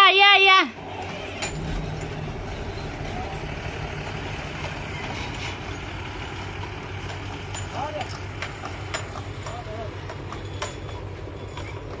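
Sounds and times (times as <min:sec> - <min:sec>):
truck diesel engine idling: 0:00.1 - 0:12.0.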